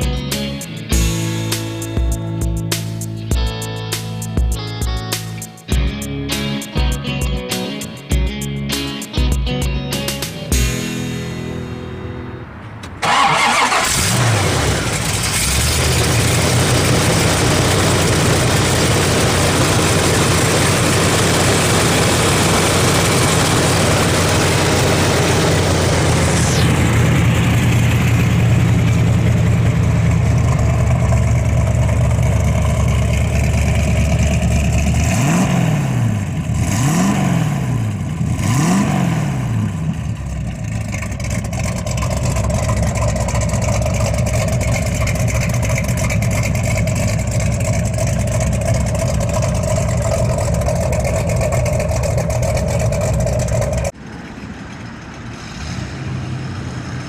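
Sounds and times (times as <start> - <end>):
car engine rumbling and revving: 10.4 - 57.0.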